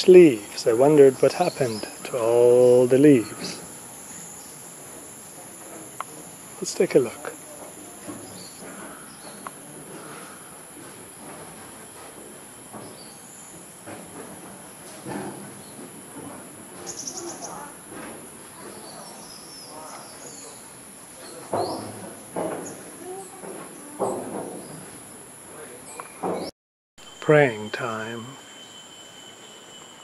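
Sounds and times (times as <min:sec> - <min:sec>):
drone of rainforest insects: 0:00.0 - 0:30.0.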